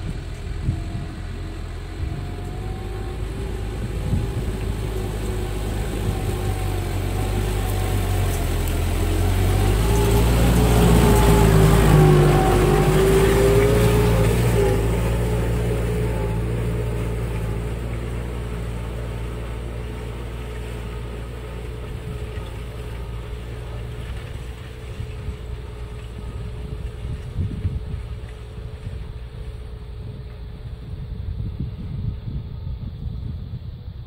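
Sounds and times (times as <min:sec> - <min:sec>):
tractor diesel engine running: 0:00.0 - 0:34.0
wind rumble on microphone: 0:00.0 - 0:34.0.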